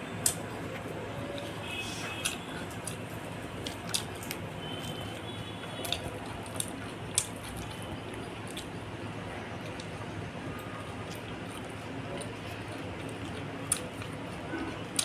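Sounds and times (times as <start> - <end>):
wet chewing and lip smacks: 0.2 - 15.0.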